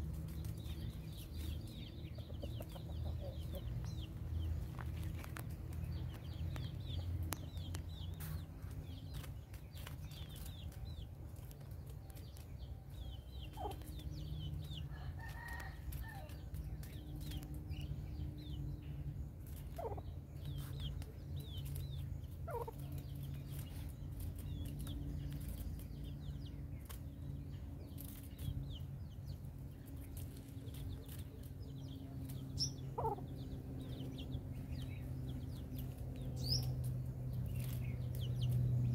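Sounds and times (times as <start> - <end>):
chick peeping: 0.0 - 38.9
steady low hum: 0.0 - 38.9.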